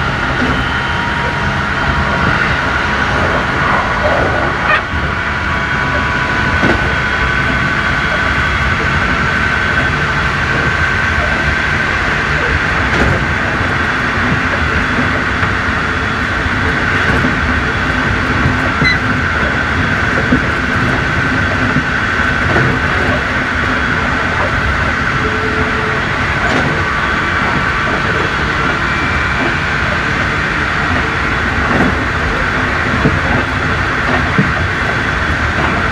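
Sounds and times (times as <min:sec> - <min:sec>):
high electric motor whine: 0:00.0 - 0:35.9
train wheels rumbling on rail: 0:00.0 - 0:35.9.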